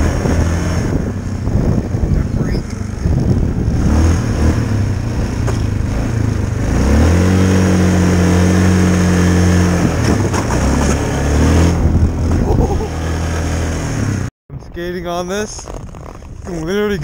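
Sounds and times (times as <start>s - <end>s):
quad engine revving: 0.0s - 14.3s.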